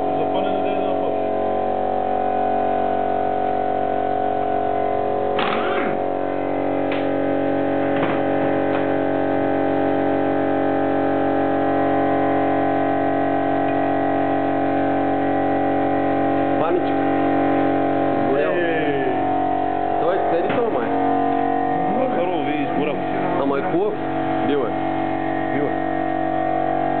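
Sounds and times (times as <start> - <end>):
steady hum of fixed tones: 0.0 - 27.0.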